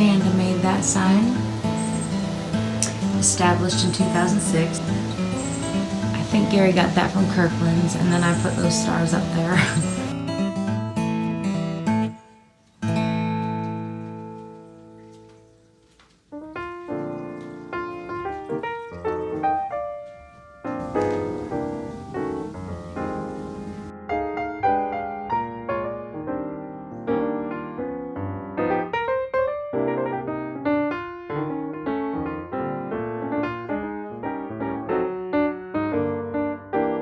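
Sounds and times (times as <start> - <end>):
gentle piano music: 0.0 - 37.0.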